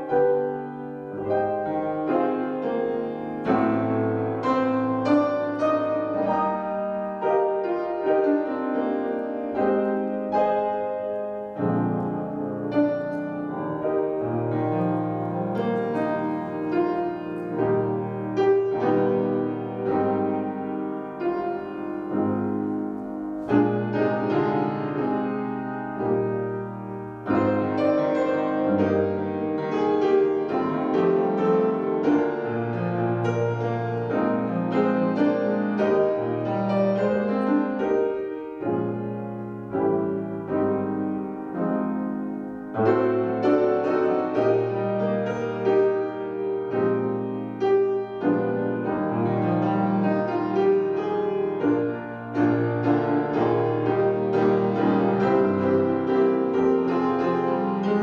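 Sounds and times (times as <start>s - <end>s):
piano playing slow chords: 0.0s - 58.0s.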